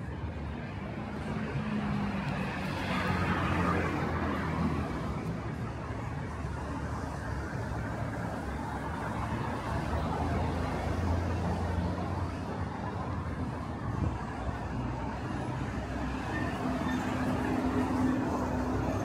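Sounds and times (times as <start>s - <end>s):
busy road traffic: 0.0s - 19.0s.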